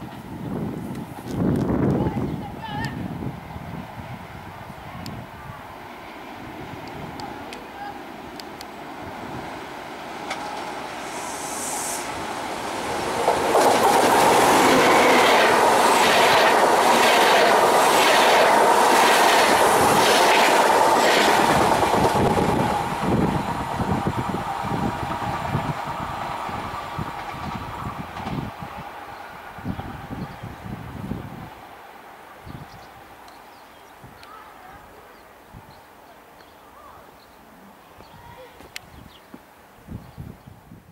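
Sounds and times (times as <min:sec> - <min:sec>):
train passing with clickety-clack: 0:00.0 - 0:33.6.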